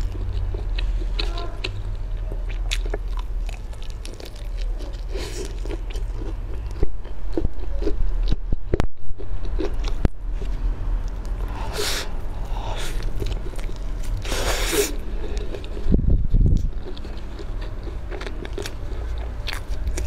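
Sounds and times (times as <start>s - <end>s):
crunchy chewing of fried chicken: 0.0s - 20.0s
low steady hum: 0.0s - 20.0s.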